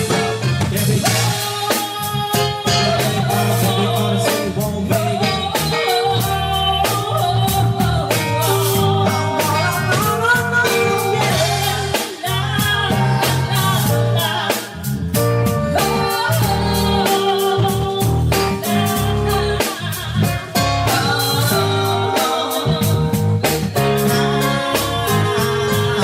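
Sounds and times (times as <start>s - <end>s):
person singing: 0.0s - 15.0s, 15.6s - 26.0s
slow pop song by a band: 0.0s - 26.0s.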